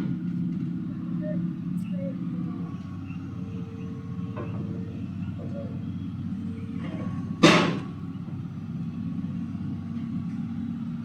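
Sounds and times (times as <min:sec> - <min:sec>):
diesel machinery engine running: 0:00.0 - 0:11.0.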